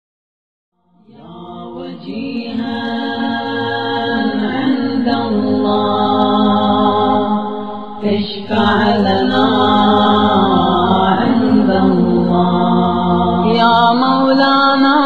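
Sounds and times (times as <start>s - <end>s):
voices chanting a drone: 0.9s - 15.0s.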